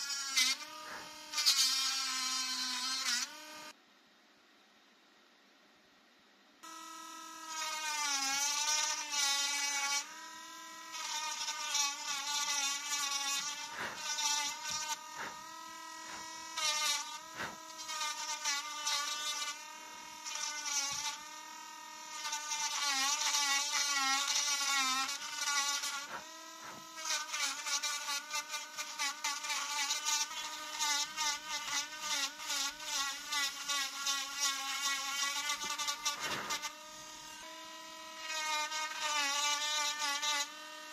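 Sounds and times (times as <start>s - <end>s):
rotary engraver whining into wood: 0.0s - 3.8s, 6.6s - 40.9s.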